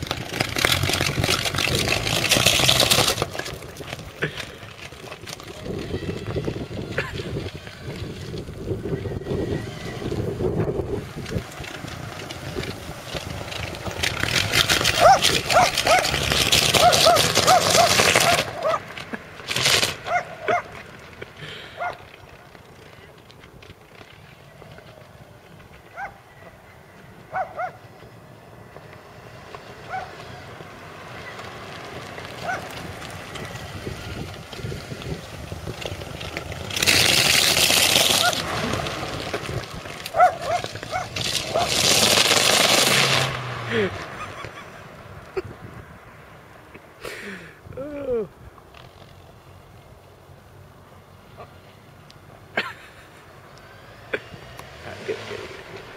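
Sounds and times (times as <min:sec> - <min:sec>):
raspy flapping exhaust noise: 0:00.0 - 0:50.1.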